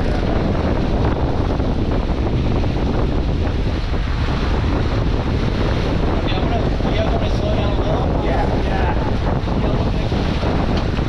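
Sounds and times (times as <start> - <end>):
water rushing past boat: 0.0 - 11.0
wind buffeting microphone: 0.0 - 11.0.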